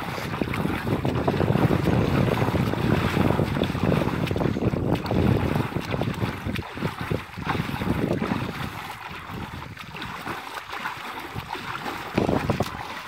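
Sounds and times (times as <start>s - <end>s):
hands splashing shallow water: 0.0s - 13.0s.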